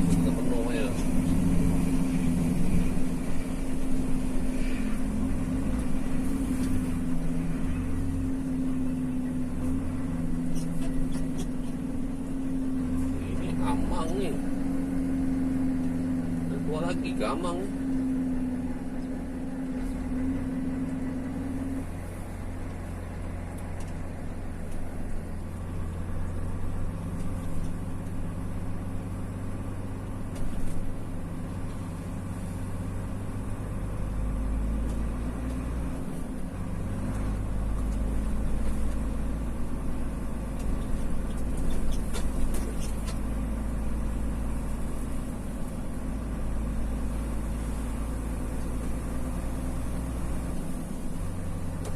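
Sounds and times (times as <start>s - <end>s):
engine and road noise in cabin: 0.0s - 51.9s.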